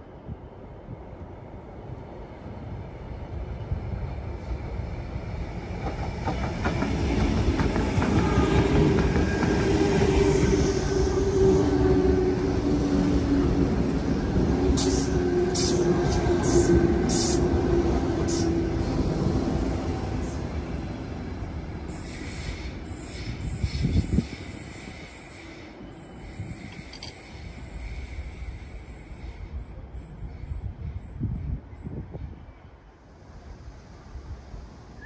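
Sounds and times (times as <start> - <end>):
electric train approaching: 0.0 - 35.0
train running gear whine: 1.6 - 31.3.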